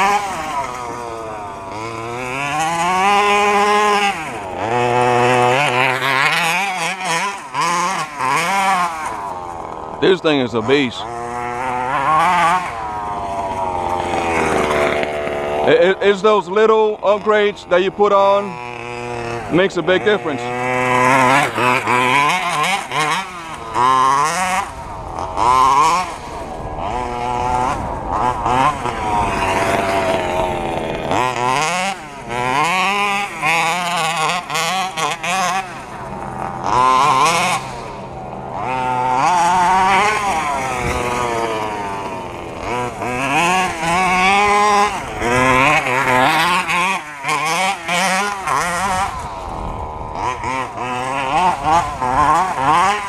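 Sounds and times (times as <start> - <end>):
rc car engine revving: 0.0 - 53.0.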